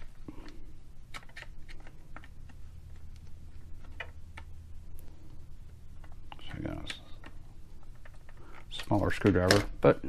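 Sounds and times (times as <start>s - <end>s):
plastic parts clicking: 0.0s - 9.9s
steady low hum: 0.0s - 10.0s.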